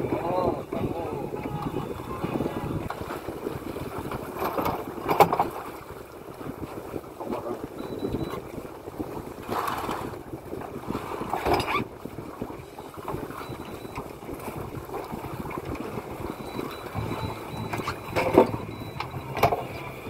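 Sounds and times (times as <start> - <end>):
water slapping boat hull: 0.0 - 20.0
wind buffeting microphone: 0.0 - 20.0.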